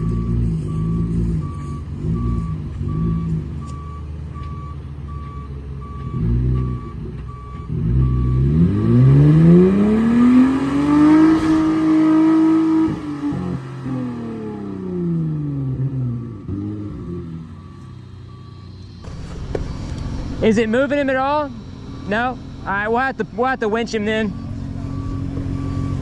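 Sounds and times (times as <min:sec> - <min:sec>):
reverse alarm beeping: 0:00.0 - 0:26.0
truck engines revving: 0:00.0 - 0:26.0.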